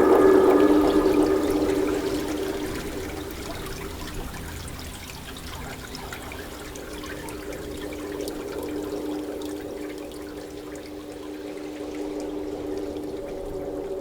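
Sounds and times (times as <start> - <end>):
boat engine hum: 0.0 - 14.0
water rushing past a boat: 0.0 - 14.0.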